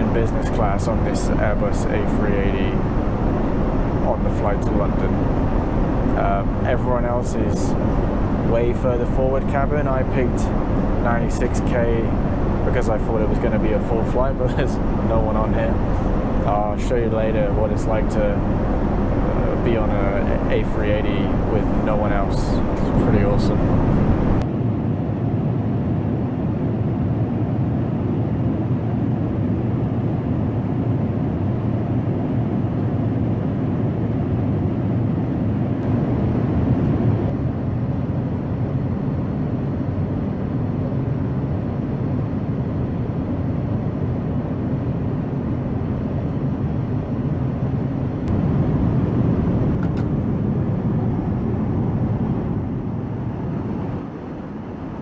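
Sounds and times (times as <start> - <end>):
airplane cabin noise in flight: 0.0 - 55.0.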